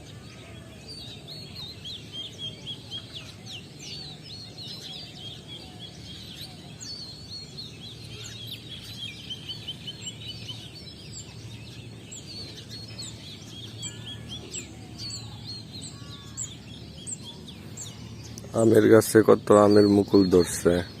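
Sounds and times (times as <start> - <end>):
small birds chirping and twittering: 0.0 - 21.0.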